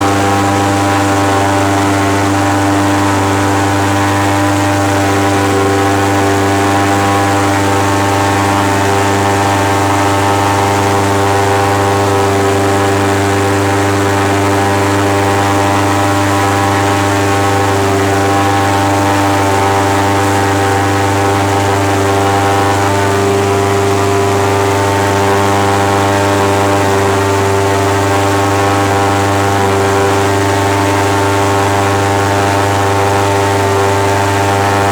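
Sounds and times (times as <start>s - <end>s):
airboat engine droning: 0.0s - 34.9s.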